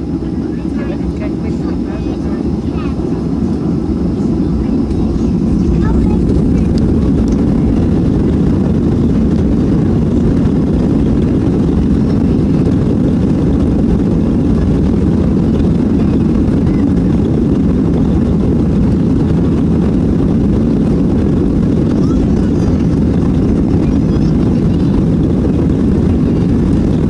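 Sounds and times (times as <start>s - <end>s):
jet engines rumbling in cabin: 0.0s - 27.0s.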